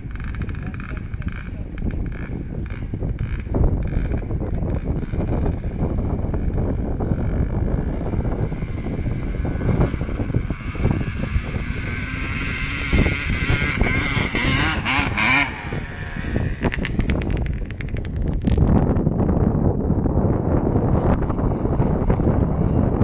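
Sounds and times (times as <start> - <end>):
vehicle engine revving: 0.0 - 18.5
low rumble: 0.0 - 23.0.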